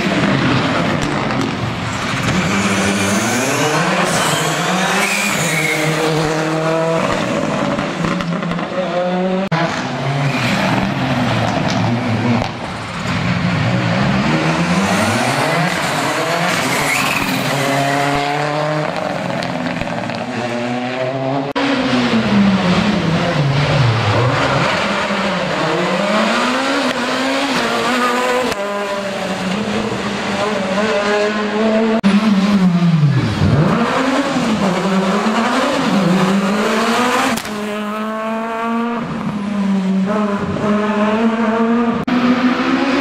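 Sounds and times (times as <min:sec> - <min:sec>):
rally car engines revving: 0:00.0 - 0:43.0.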